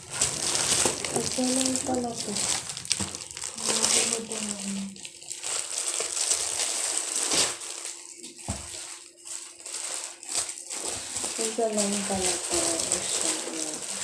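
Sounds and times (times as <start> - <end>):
rustling handling noise: 0.0 - 14.0.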